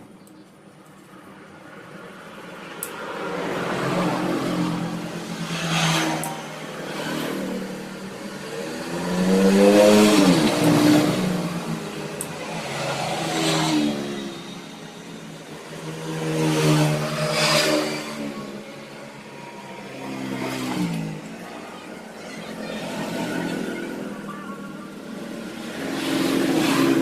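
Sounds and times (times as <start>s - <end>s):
motorcycle engine revving: 3.5s - 27.0s.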